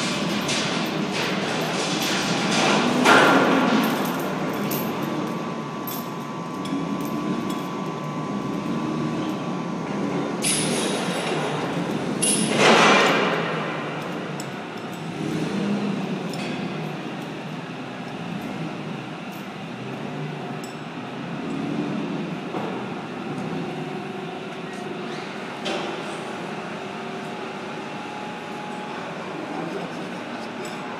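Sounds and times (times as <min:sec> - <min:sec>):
crane and shop machinery running: 0:00.0 - 0:30.9.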